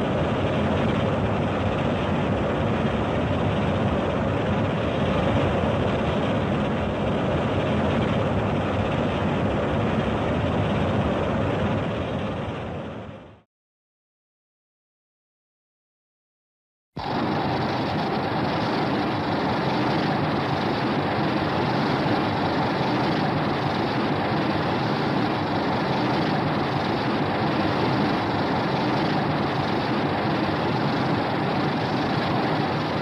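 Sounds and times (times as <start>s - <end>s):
steady rushing noise: 0.0s - 13.4s, 17.0s - 33.0s.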